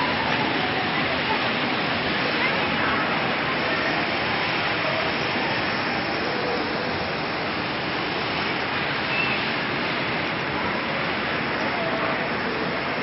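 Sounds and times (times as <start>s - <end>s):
fountain water spraying and splashing: 0.0s - 13.0s.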